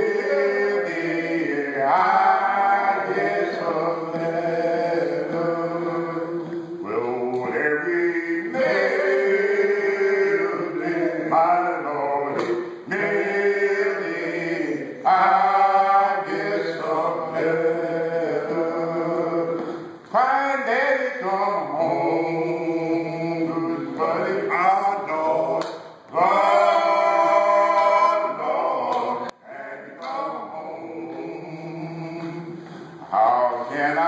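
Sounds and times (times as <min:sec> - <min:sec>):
men singing a cappella: 0:00.0 - 0:34.0.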